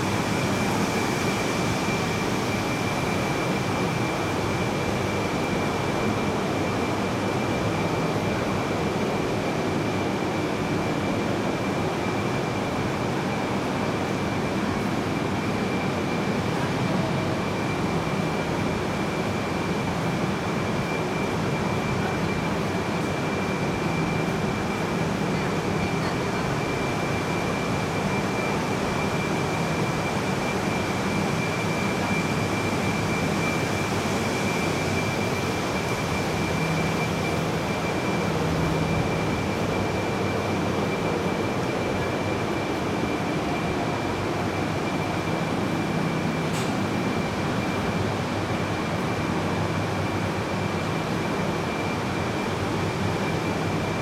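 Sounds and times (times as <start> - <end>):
steady high whine: 0.0 - 54.0
train equipment hum and hiss: 0.0 - 54.0.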